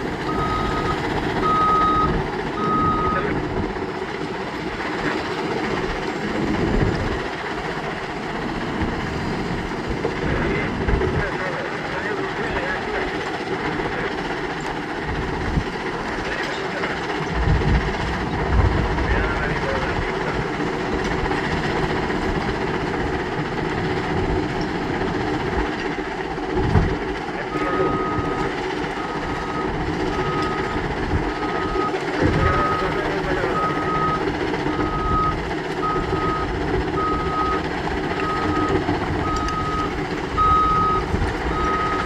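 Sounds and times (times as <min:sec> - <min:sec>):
heavy machinery running: 0:00.0 - 0:42.0.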